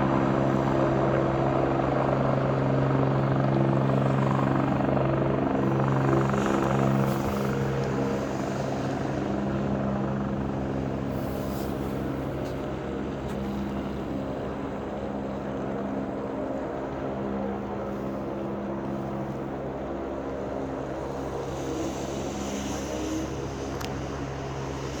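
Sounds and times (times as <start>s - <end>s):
helicopter rotor and turbine hum: 0.0s - 25.0s.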